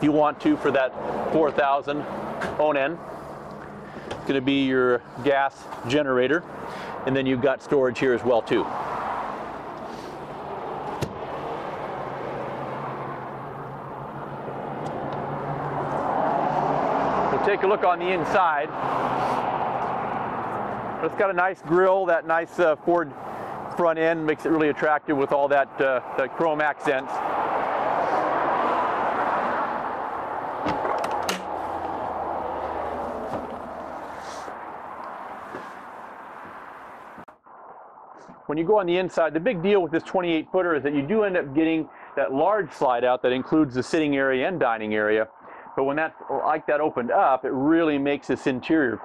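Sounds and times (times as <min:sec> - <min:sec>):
steady rushing noise: 0:00.0 - 0:39.9
traffic noise: 0:00.0 - 0:49.0.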